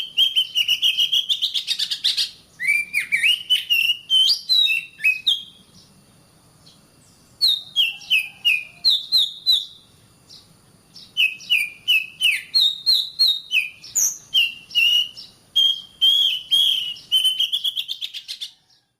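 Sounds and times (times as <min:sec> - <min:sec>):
bird singing whistled notes: 0:00.0 - 0:06.0, 0:06.6 - 0:18.9.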